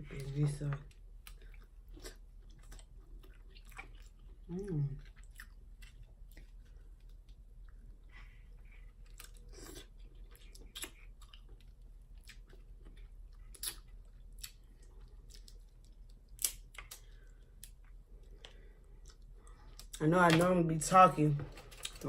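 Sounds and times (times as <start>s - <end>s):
quiet chewing: 0.2s - 20.0s.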